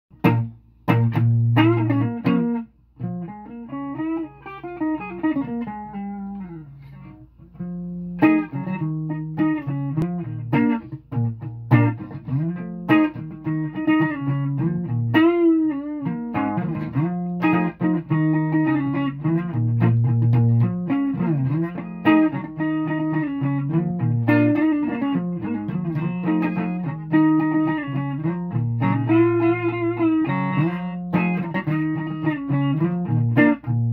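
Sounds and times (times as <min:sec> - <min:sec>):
plucked guitar melody: 0:00.1 - 0:33.9.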